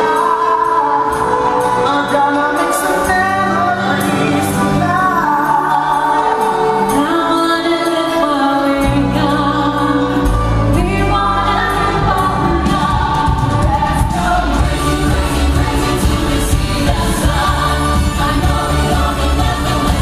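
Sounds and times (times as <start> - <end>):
musical theatre song: 0.0 - 20.0.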